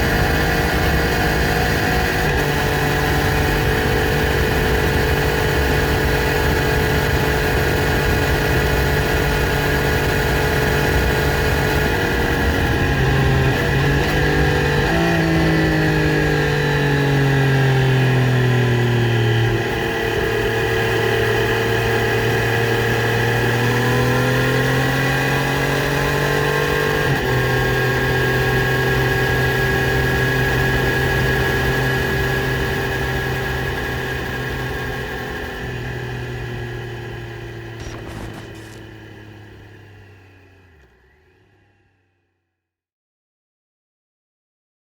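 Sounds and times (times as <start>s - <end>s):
motorcycle engine revving: 0.0s - 41.7s.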